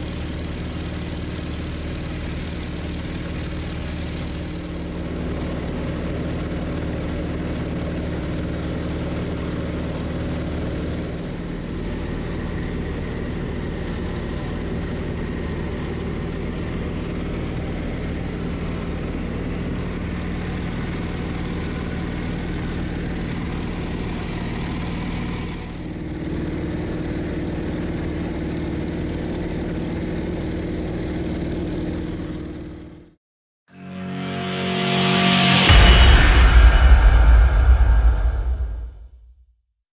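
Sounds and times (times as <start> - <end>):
propeller aircraft engine drone: 0.0 - 33.0.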